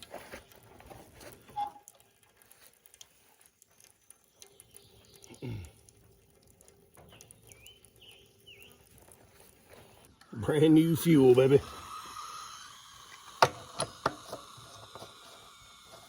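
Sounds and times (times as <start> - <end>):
gasoline trickling into a bowl: 0.0 - 16.0.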